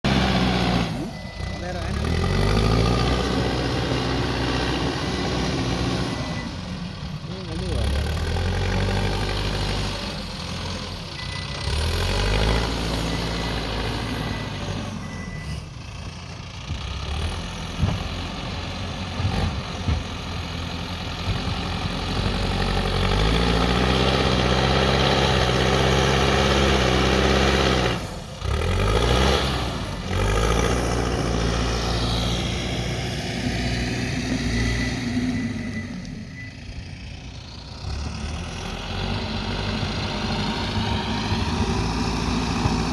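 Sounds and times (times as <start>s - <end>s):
diesel engine working: 0.0s - 42.9s.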